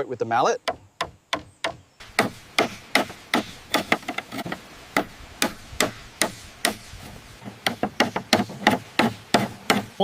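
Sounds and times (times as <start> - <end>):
mallet knocking bamboo: 0.6 - 6.9, 7.6 - 10.0.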